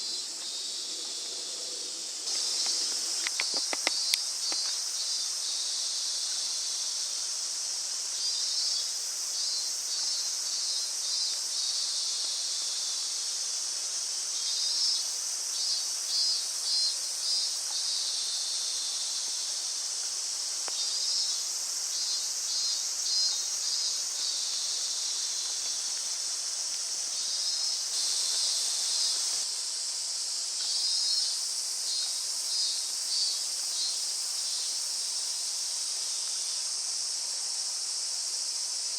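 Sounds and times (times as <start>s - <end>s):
insects chirring: 0.0s - 38.9s
rapid pulsing insect calls: 0.0s - 38.9s.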